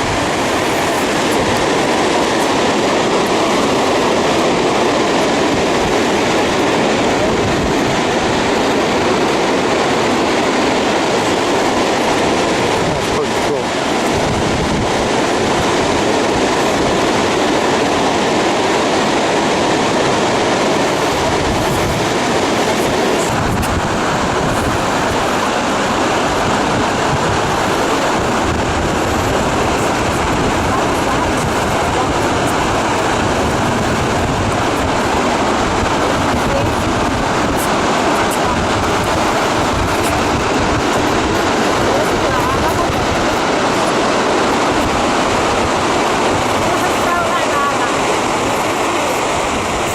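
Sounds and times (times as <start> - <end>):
bus rumble and road noise: 0.0 - 49.9.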